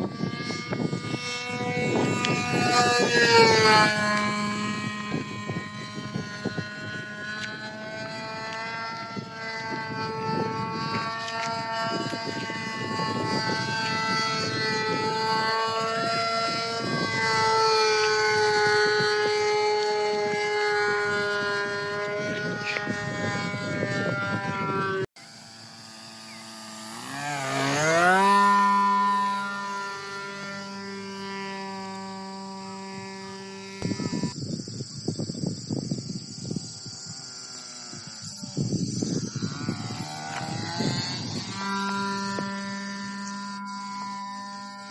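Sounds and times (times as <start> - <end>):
model plane engine whine: 0.0 - 44.9.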